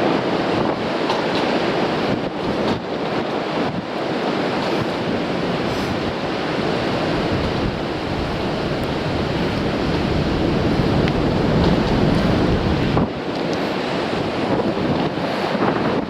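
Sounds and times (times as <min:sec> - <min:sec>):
surf washing against rocks: 0:00.0 - 0:16.0
wind rumbling on microphone: 0:00.0 - 0:16.0.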